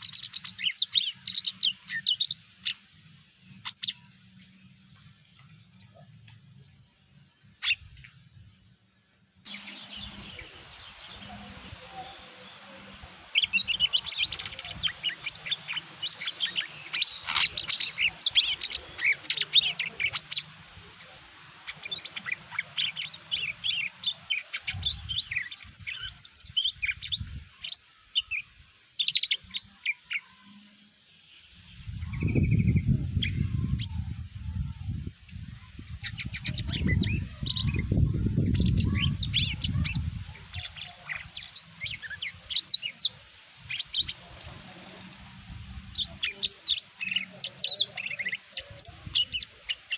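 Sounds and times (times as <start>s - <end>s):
bird singing chirps and trills: 0.0s - 4.8s, 9.4s - 49.9s.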